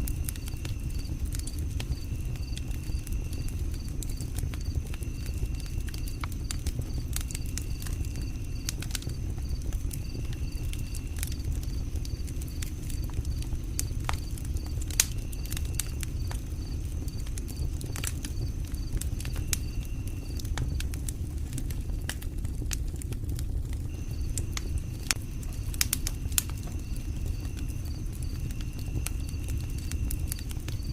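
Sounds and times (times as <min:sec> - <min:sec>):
insects chirping: 0:00.0 - 0:22.4, 0:23.8 - 0:30.9
campfire crackling and popping: 0:00.0 - 0:30.9
low rumble of flames: 0:00.0 - 0:30.9.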